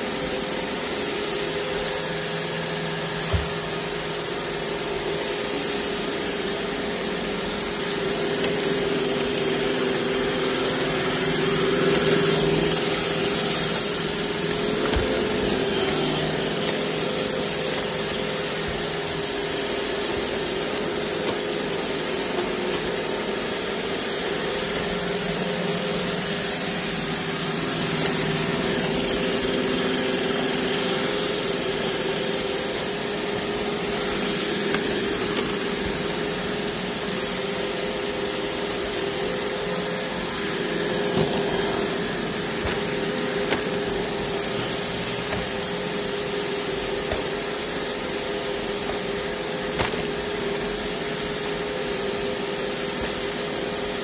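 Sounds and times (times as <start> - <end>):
robot vacuum whirring: 0.0 - 54.0.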